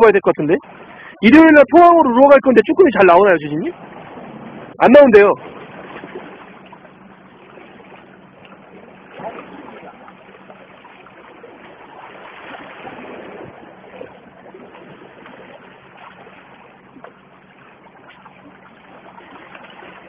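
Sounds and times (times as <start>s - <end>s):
sea water lapping against rocks: 0.4s - 20.0s
small splashes: 3.6s - 20.0s.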